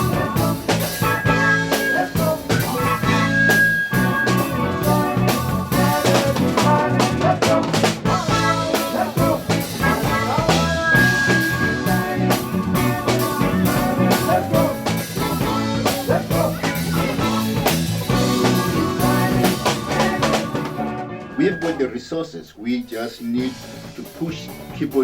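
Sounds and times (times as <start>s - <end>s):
bass: 0.0s - 22.0s, 23.4s - 25.0s
drum kit beat: 0.0s - 22.0s, 22.8s - 25.0s
person singing: 0.0s - 22.0s
guitar: 0.0s - 25.0s.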